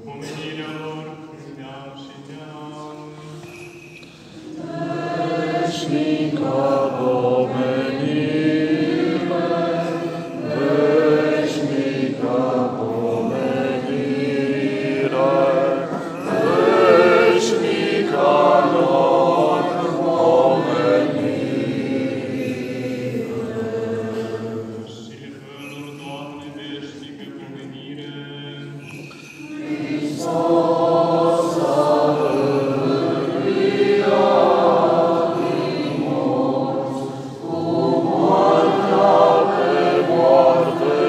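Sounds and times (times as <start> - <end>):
choir singing liturgical chant: 0.0 - 41.0.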